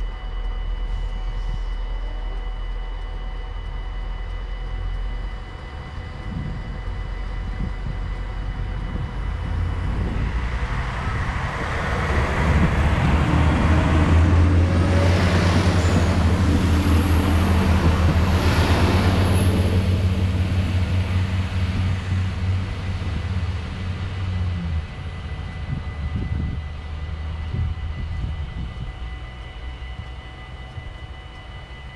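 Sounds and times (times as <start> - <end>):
diesel train drone: 0.0 - 31.9
wheel and rail noise: 4.8 - 31.9.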